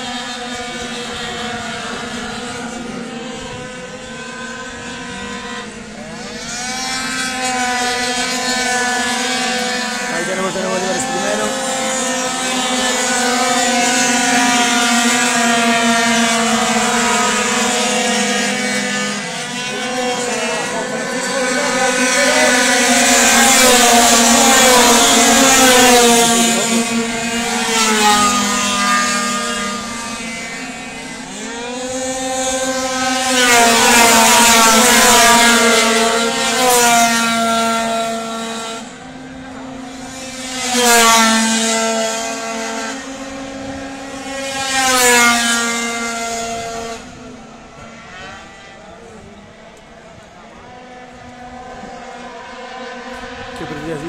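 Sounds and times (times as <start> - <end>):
racing scooters passing by: 0.0 - 54.0.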